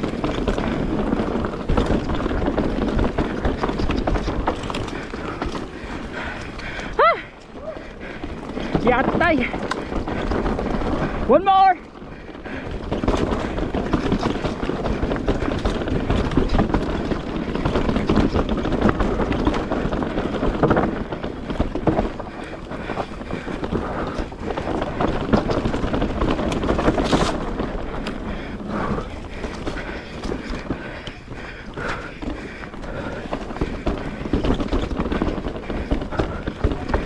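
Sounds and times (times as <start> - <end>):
bike knocks and rattles: 0.0 - 37.0.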